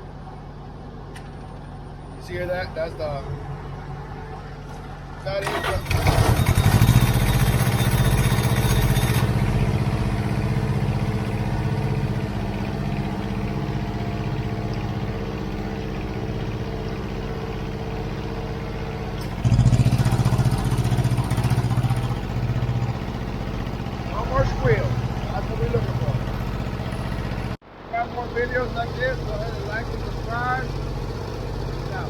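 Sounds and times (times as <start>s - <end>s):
small diesel engine running: 0.1s - 32.0s.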